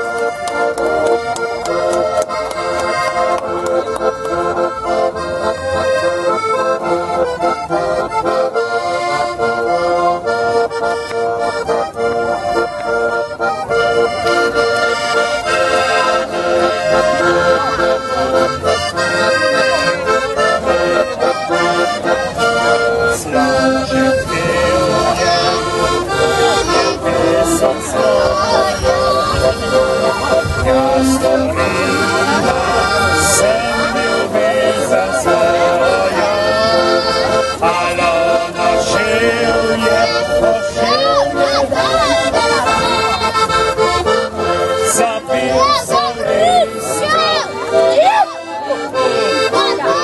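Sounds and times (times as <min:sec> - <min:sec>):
button accordion playing: 0:00.0 - 0:50.0.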